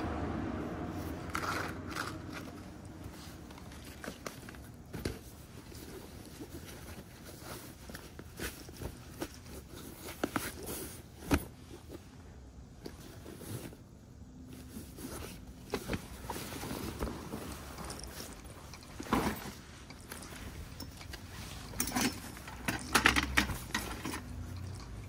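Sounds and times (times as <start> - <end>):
fabric bags rustling and scuffing: 0.9 - 25.0.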